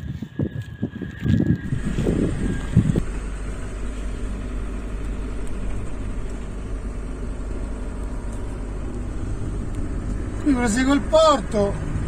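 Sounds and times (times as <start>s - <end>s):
camper van engine rumble: 0.0s - 12.0s
road noise: 0.0s - 12.0s.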